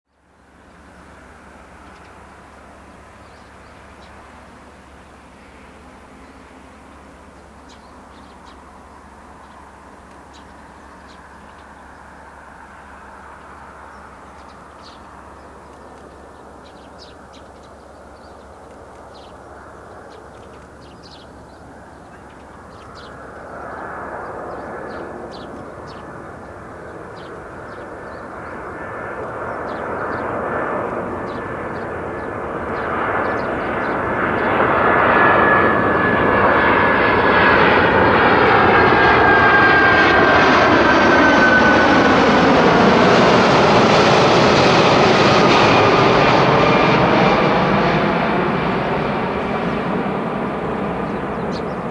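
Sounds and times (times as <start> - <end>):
high jet engine whine: 0.1 - 51.9.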